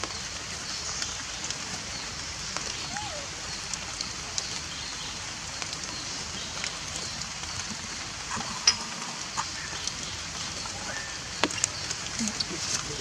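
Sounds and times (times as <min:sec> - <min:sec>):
rain falling on leaves: 0:00.0 - 0:13.0
water drips ticking: 0:00.9 - 0:13.0.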